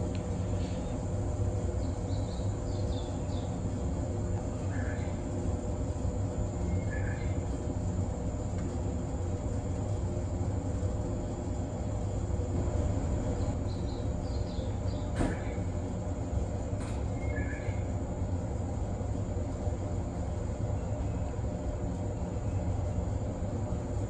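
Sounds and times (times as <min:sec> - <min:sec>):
high whine: 0:00.0 - 0:24.0
train equipment humming: 0:00.0 - 0:24.0.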